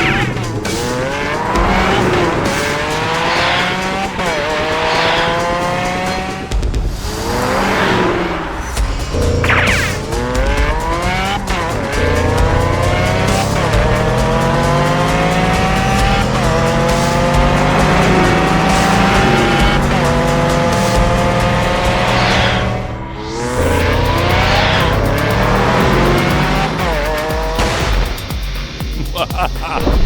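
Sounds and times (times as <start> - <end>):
car engine revving and shifting: 0.0 - 27.8
whoosh: 0.0 - 28.8
background music: 0.0 - 30.0.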